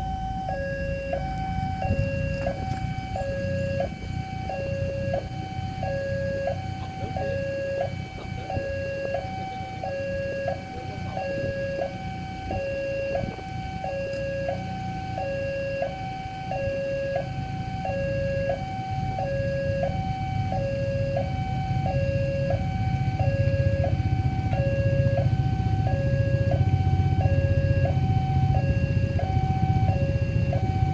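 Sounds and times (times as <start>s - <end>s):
level crossing two-tone alarm: 0.0s - 30.9s.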